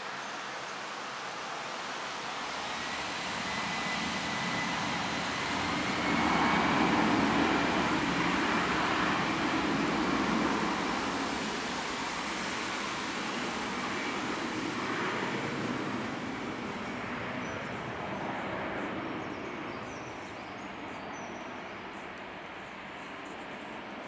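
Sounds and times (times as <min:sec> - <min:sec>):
jet engines at takeoff power: 0:00.0 - 0:24.0.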